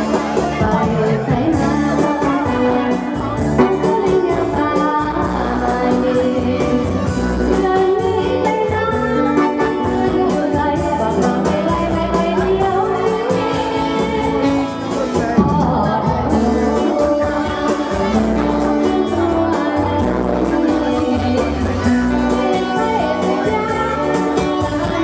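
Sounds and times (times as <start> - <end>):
amplified keyboard music with beat: 0.0 - 25.0
woman singing into microphone: 0.0 - 25.0.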